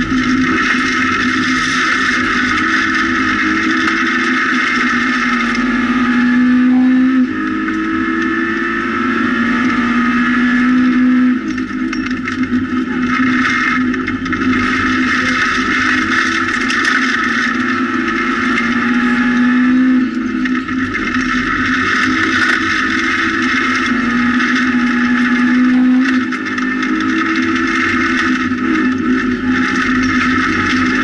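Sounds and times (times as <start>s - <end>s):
rally car engine at high revs: 0.0s - 31.0s
tyres on gravel: 0.0s - 31.0s.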